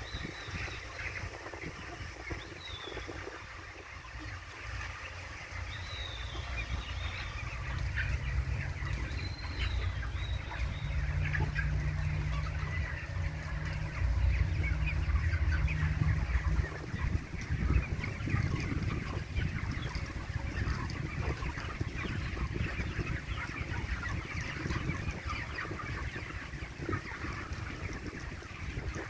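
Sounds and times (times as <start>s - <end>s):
chickens clucking and calling: 0.0s - 29.0s.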